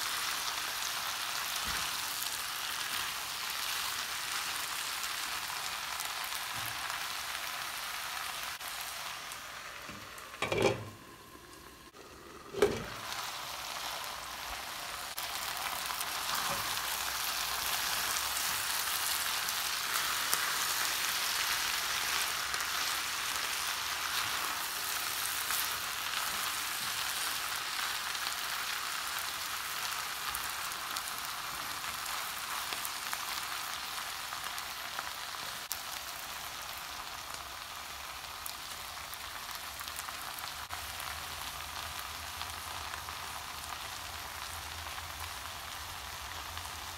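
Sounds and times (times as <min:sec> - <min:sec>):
vegetables sizzling in hot oil: 0:00.0 - 0:46.9.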